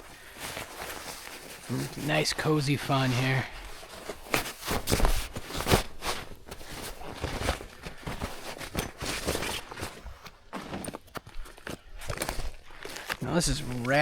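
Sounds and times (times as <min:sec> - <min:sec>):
camping gear rustling and knocks: 0:00.0 - 0:14.0.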